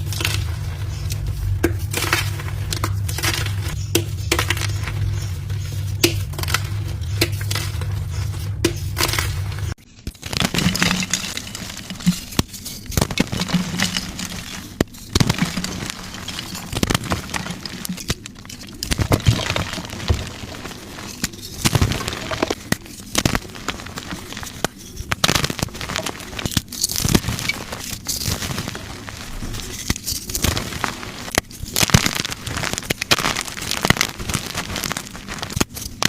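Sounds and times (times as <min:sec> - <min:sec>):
chalk blocks crunching: 0:00.0 - 0:36.0.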